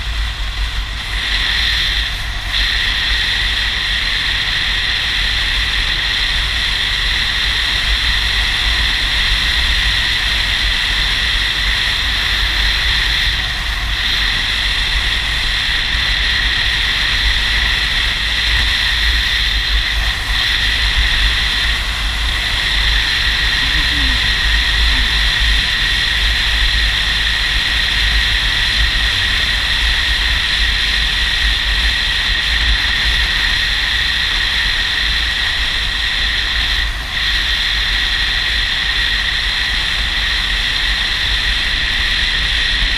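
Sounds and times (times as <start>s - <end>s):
wind and road noise on motorcycle: 0.0s - 42.9s.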